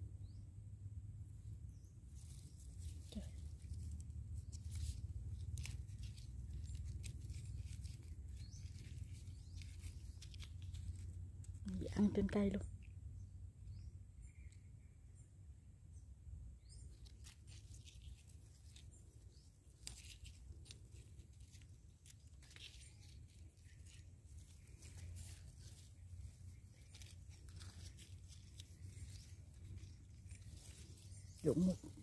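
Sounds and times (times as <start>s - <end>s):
leaves rustling and crackling: 1.6s - 14.4s, 16.6s - 32.0s.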